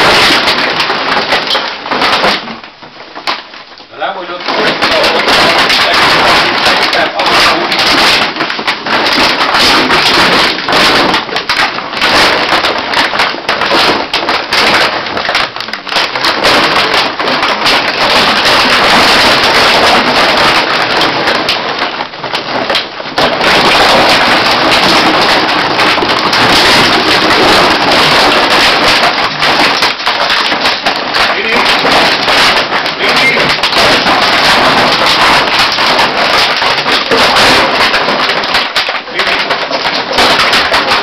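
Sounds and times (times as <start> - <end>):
plastic bottles crackling and crunching: 0.0 - 41.0.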